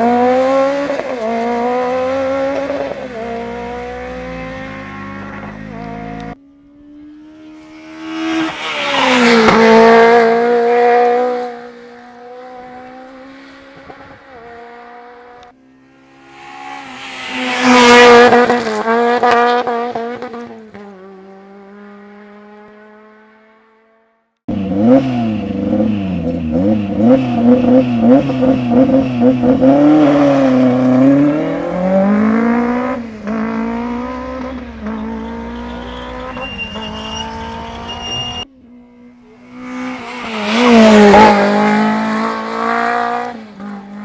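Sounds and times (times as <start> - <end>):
engine revving up and down: 0.0 - 20.5, 24.5 - 44.0
rally cars passing at speed: 0.0 - 44.0.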